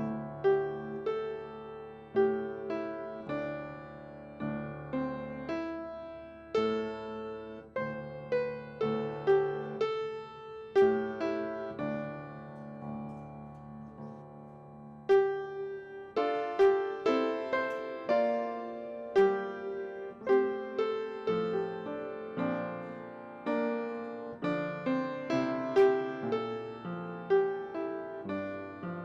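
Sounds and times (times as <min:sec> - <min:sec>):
piano notes and chords: 0:00.0 - 0:29.0.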